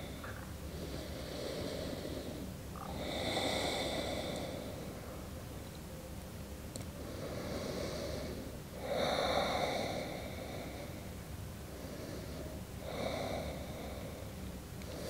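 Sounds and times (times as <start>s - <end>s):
woman breathing slowly: 0.0s - 5.3s, 6.9s - 15.0s.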